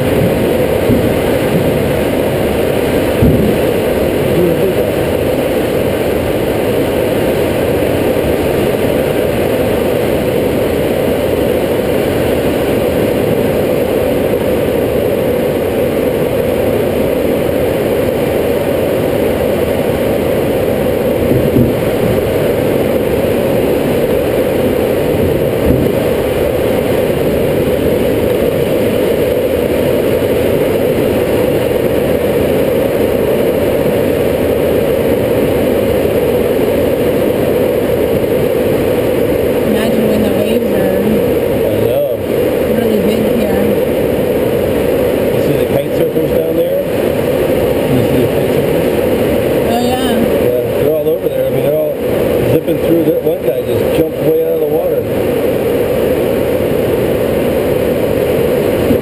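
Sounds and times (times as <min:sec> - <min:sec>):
rushing airflow in cockpit: 0:00.0 - 0:59.0.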